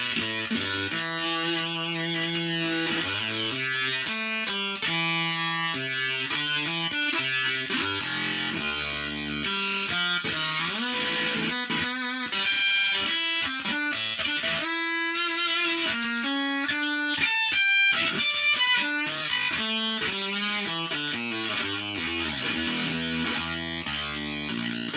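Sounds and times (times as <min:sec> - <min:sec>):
distorted electric guitar: 0:00.0 - 0:24.9.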